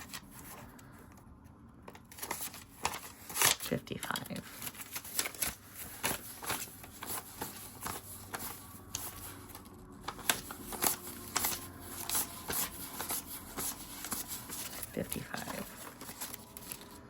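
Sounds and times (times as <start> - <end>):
paper banknotes rustling: 0.0 - 1.1, 1.9 - 17.0.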